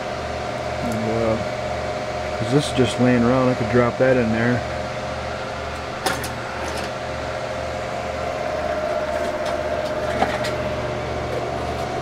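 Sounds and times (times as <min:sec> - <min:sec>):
computer fan whirring: 0:00.0 - 0:12.0.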